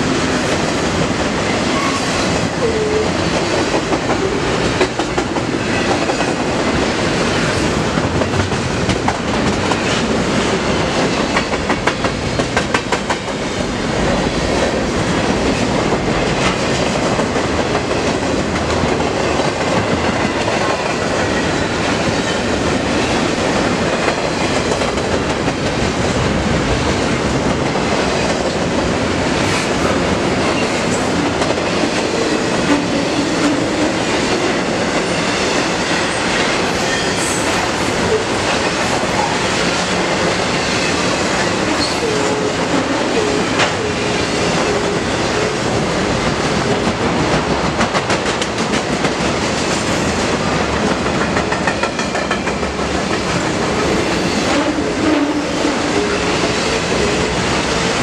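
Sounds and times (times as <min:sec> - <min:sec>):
steel wheels on rails: 0:00.2 - 0:58.0.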